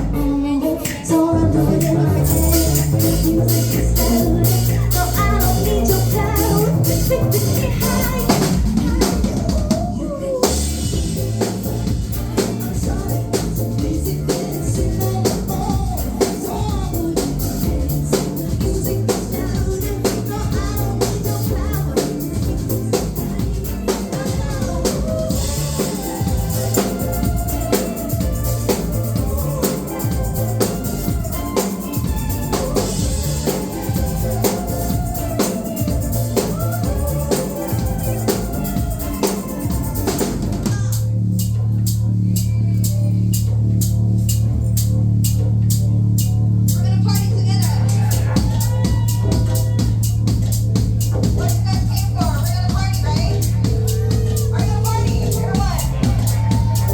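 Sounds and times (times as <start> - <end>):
drum kit beat: 0.0 - 56.9
live band playing pop: 0.0 - 56.9.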